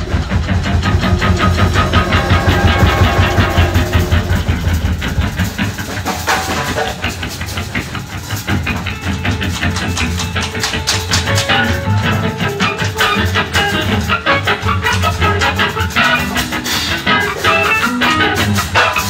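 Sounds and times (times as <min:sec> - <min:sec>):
fast drumming: 0:00.0 - 0:19.0
strummed electric guitar: 0:00.0 - 0:19.0.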